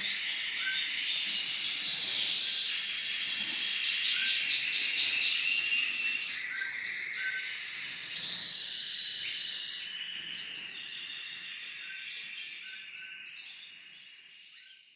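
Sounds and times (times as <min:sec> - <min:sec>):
cage birds chirping and singing: 0:00.0 - 0:14.9.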